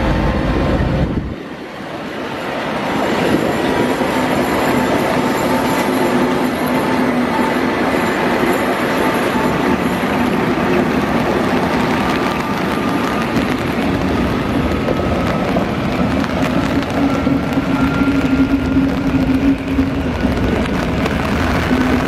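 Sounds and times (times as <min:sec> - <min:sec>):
train rolling over rails: 0:00.0 - 0:22.0.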